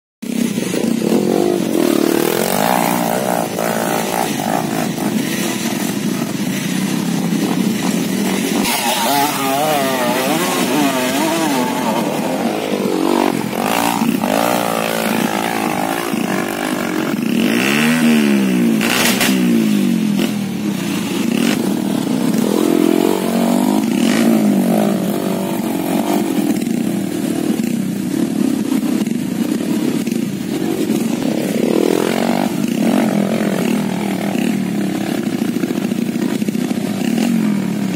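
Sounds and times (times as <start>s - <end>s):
motorcycle engines revving: 0.2s - 37.9s.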